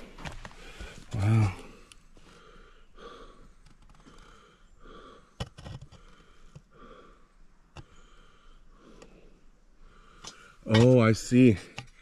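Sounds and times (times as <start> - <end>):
person breathing: 0.0 - 10.7.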